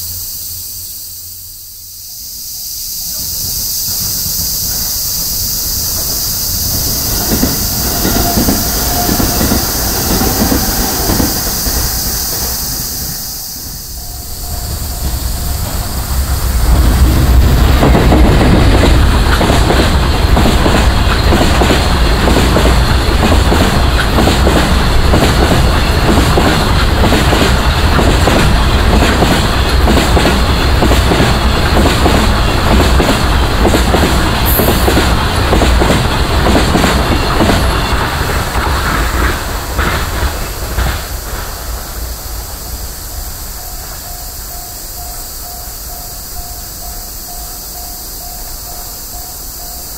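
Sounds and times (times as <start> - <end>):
cicadas buzzing: 0.0 - 49.9
freight train rumbling past: 0.0 - 49.9
quieter passing train: 0.0 - 49.9
train wheels clickety-clack: 3.0 - 49.9.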